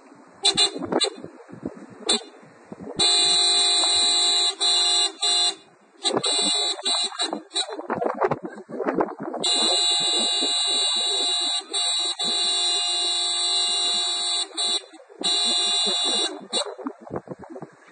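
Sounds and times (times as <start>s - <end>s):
car horn blaring: 0.4s - 1.3s, 2.0s - 8.1s, 9.4s - 17.1s.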